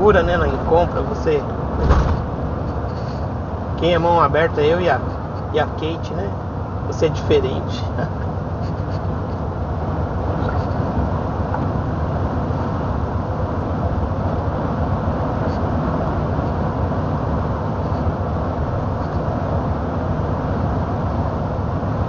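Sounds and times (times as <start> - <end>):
road noise: 0.0 - 22.0
truck engine rumble: 0.0 - 22.0.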